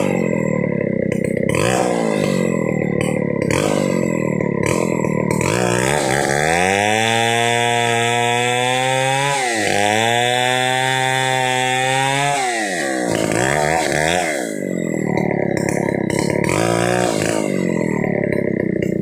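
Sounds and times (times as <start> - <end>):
chainsaw sawing wood: 0.0 - 19.0.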